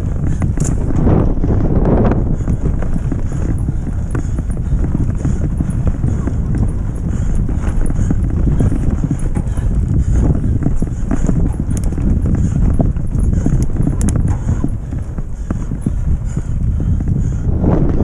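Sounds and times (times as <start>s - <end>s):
bike rattling and clicking: 0.0s - 18.0s
bike tyres rumbling on dirt: 0.0s - 18.0s.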